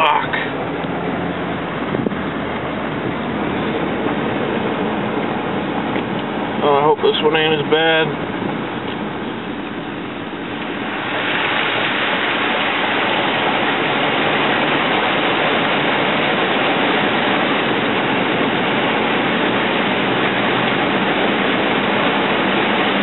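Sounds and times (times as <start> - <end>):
engine low hum: 0.0 - 23.0
floodwater rushing against a truck: 0.0 - 23.0.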